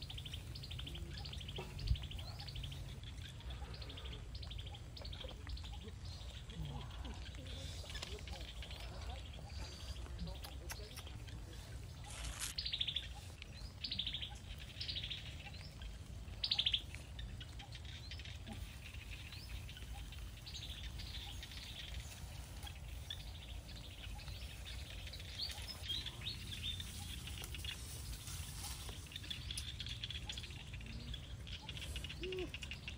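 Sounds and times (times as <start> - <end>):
birds chirping: 0.0 - 32.9
birds trilling: 0.0 - 32.9.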